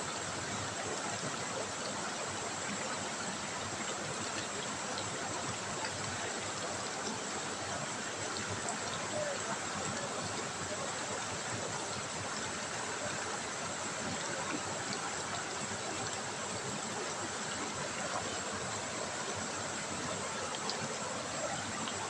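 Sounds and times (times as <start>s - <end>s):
river water babbling over stones: 0.0s - 22.0s.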